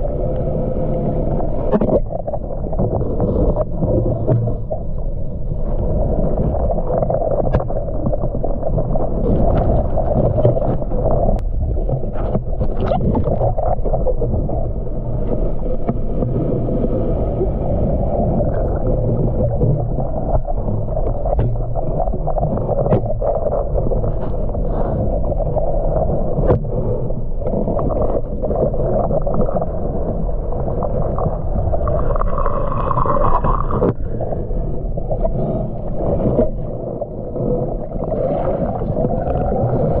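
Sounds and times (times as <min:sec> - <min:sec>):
underwater rumble of moving water: 0:00.0 - 0:40.0.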